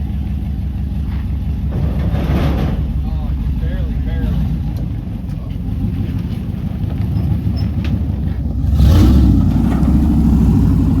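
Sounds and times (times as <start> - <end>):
truck engine revving: 1.5 - 11.0.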